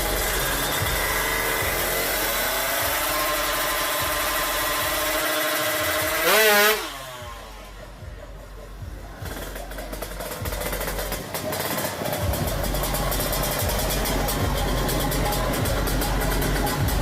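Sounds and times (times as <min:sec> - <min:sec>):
motorcycle engine running hard: 0:00.0 - 0:17.0.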